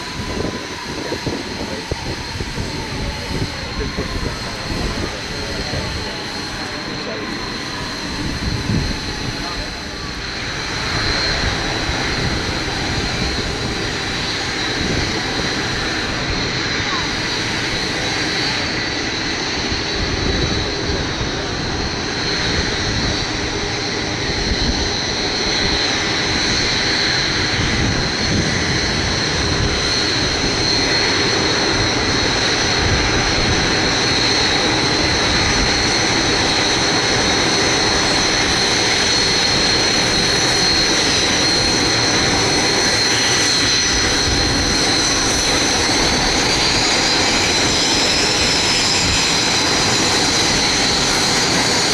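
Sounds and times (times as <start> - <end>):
jet engines whining: 0.0 - 51.9.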